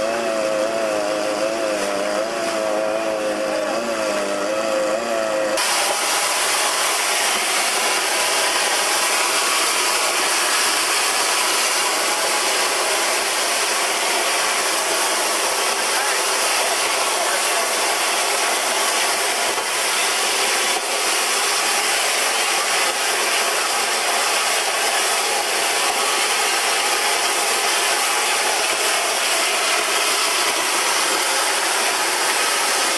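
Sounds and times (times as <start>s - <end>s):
nozzle spraying mortar hiss: 5.6s - 32.9s.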